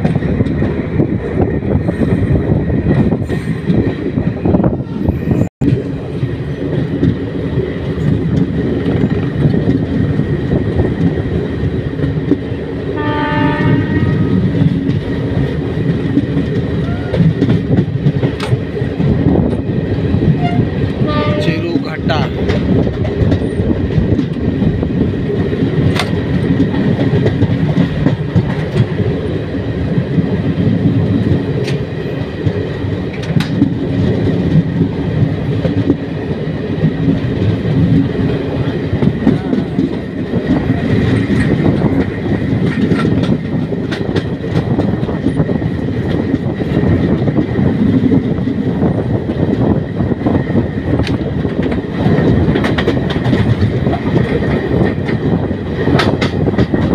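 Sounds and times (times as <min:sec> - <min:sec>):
sharp rail clicks: 0:00.0 - 0:12.7, 0:13.6 - 0:56.9
train wheels rumbling on rails: 0:00.0 - 0:56.9.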